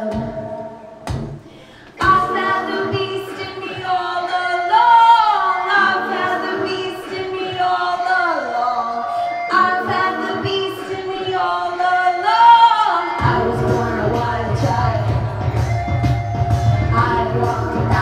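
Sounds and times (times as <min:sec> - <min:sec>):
synthpop music with singing: 0:00.0 - 0:18.0.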